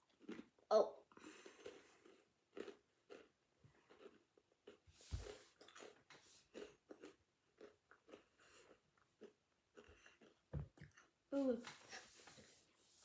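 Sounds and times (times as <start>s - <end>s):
person chewing crunchy sweet: 0.0s - 11.2s.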